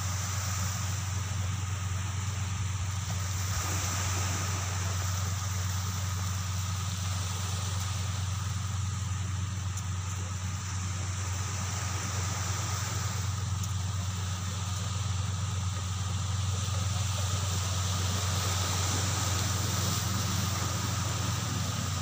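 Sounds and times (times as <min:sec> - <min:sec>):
low mechanical hum: 0:00.0 - 0:22.0
thin steady whine: 0:00.0 - 0:22.0.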